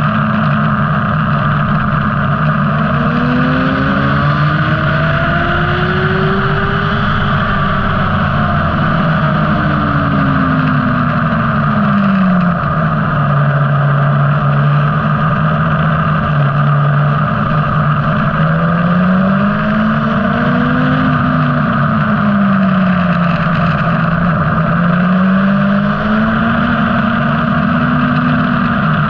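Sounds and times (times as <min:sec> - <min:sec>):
motorcycle engine: 0:00.0 - 0:29.0
wind noise: 0:00.0 - 0:29.0.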